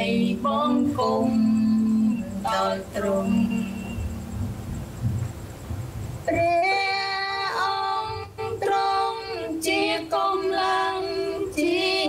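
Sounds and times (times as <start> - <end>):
woman singing a slow worship song: 0.0 - 4.5, 6.2 - 12.0.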